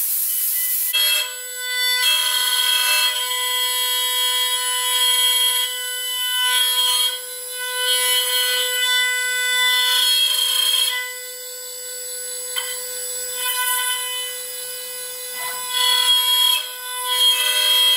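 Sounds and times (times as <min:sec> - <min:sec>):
router spindle whining: 0:00.9 - 0:17.9.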